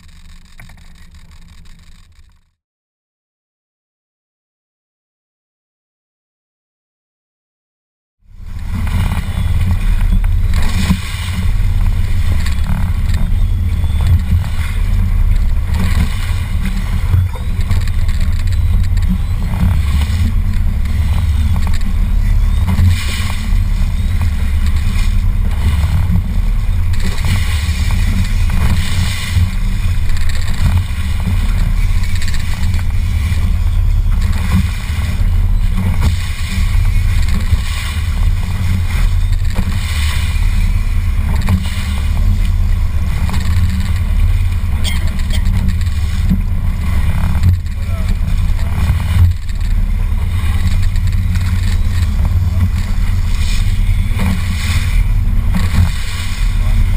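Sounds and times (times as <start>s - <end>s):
boat motor rumbling: 0.0s - 2.6s, 8.2s - 56.9s
hiss of wind and water: 8.3s - 56.9s.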